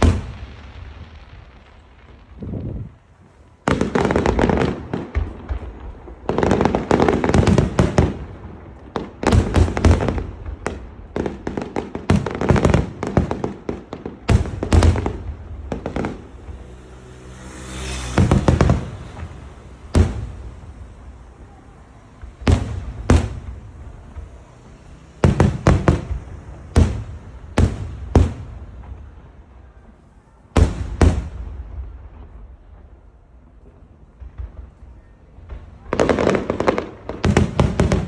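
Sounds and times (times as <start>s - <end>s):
fireworks shells booming: 0.0s - 38.0s.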